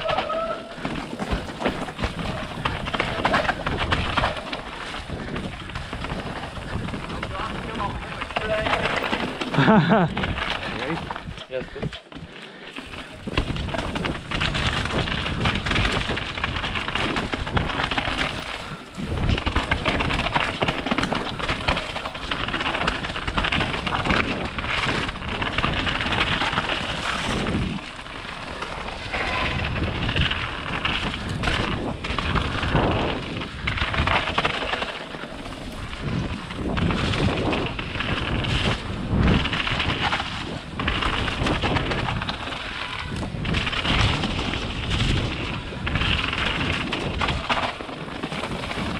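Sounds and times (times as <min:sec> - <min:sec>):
bike rattling: 0:00.0 - 0:48.9
bike tyres crunching over stones: 0:00.0 - 0:48.9.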